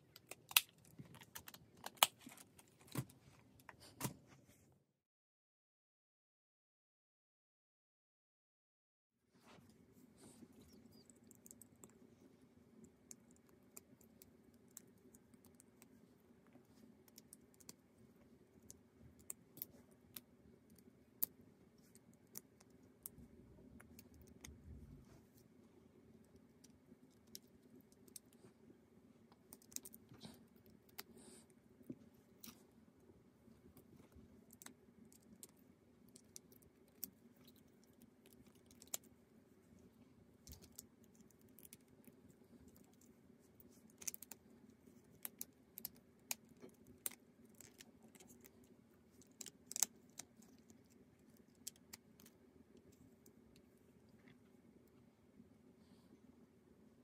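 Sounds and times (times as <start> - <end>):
low steady hum: 9.2 - 57.0.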